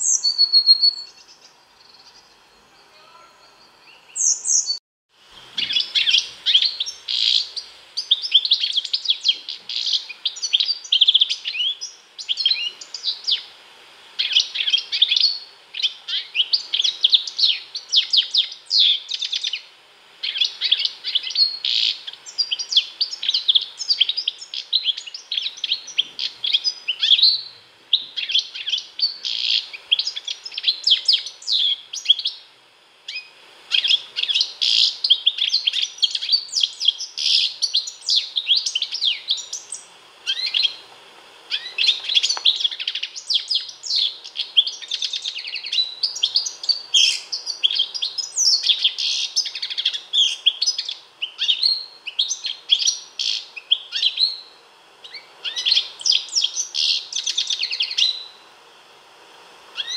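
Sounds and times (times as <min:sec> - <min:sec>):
bird twittering chirps and trills: 0:00.0 - 0:04.8, 0:05.4 - 0:13.5, 0:20.2 - 0:32.5, 0:33.1 - 0:40.8, 0:41.5 - 0:54.5, 0:55.1 - 0:58.4.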